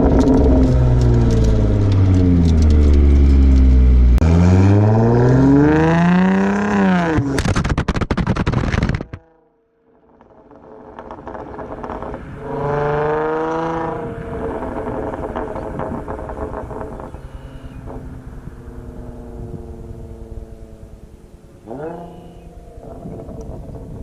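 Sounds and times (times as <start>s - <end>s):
exhaust pops and crackles: 0.0s - 4.3s, 4.9s - 9.4s, 10.0s - 24.0s
car engine revving: 0.0s - 9.5s, 10.3s - 24.0s.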